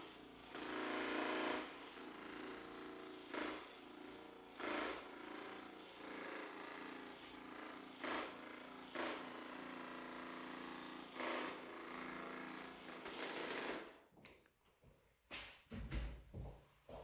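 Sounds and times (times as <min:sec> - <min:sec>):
massage gun buzzing: 0:00.0 - 0:14.0.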